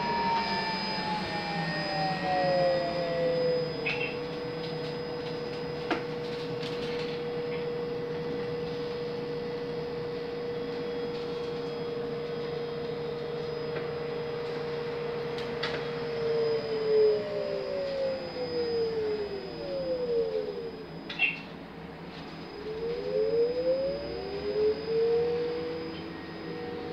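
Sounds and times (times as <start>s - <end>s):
electric motor whine: 0.0s - 26.9s.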